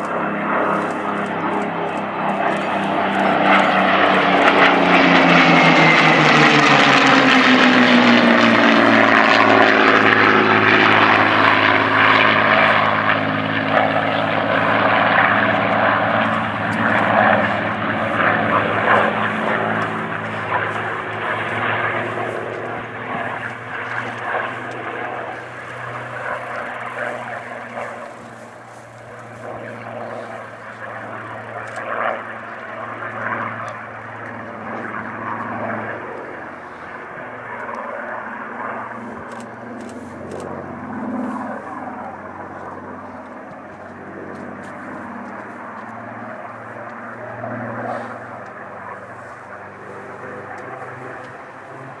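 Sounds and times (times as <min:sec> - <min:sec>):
propeller plane engine droning: 0:00.0 - 0:52.0.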